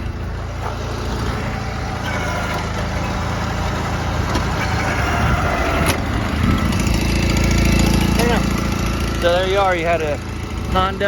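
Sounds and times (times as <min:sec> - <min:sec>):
garden tractor engine running: 0:00.0 - 0:11.0.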